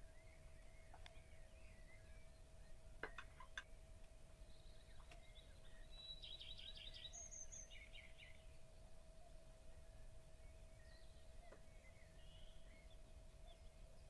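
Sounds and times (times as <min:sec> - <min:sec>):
faint bird chirps: 0:00.0 - 0:03.8, 0:04.4 - 0:14.0.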